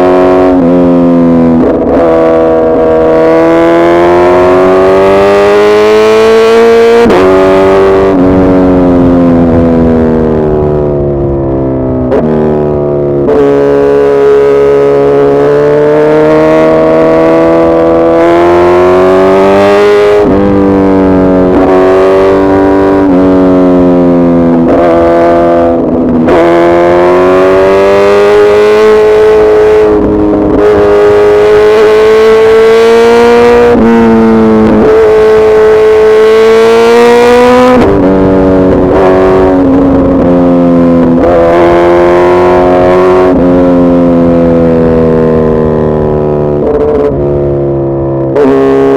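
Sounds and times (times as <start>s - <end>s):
motorcycle engine running loudly: 0.0s - 48.9s.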